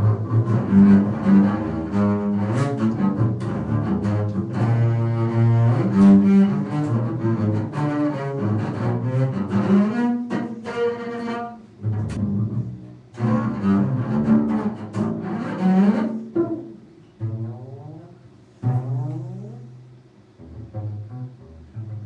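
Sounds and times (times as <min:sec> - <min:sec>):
bowed cello notes: 0:00.0 - 0:22.0.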